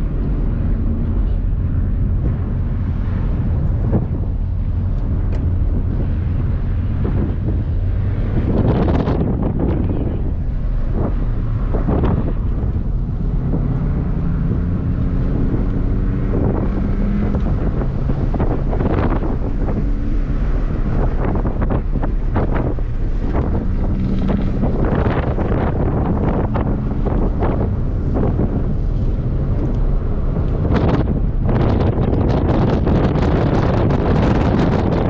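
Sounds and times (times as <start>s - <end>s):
car engine accelerating: 0.0s - 35.0s
road and wind noise: 0.0s - 35.0s.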